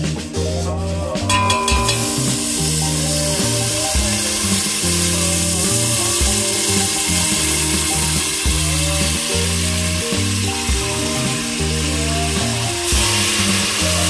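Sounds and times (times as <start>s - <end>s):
background music with bass: 0.0s - 14.0s
food sizzling in a pan: 1.3s - 14.0s.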